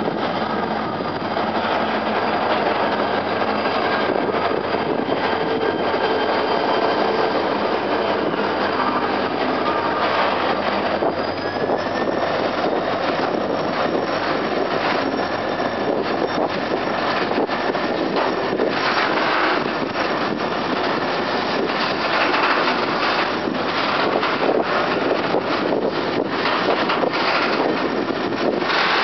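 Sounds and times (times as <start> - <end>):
diesel locomotive engine: 0.0 - 29.0
train wheels rumbling on rails: 0.0 - 29.0.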